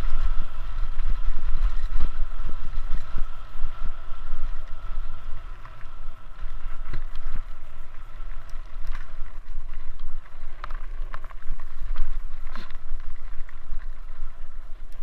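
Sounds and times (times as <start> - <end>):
faint high whine: 0.0 - 15.0
wind rumble on microphone: 0.0 - 15.0.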